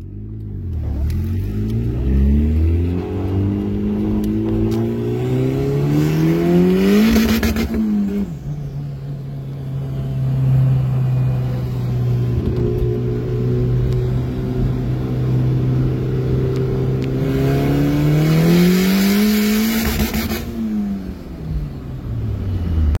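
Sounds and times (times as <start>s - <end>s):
turbocharged car engine revving: 0.0s - 8.4s, 10.2s - 21.3s.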